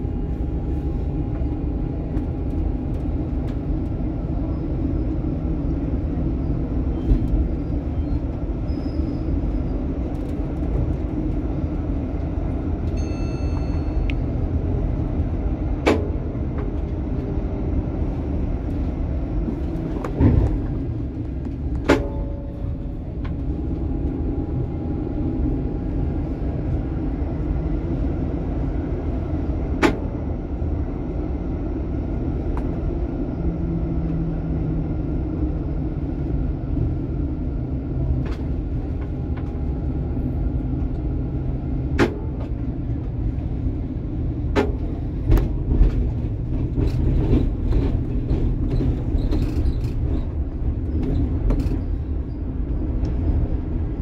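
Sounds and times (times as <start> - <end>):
tram rumbling along track: 0.0 - 54.0.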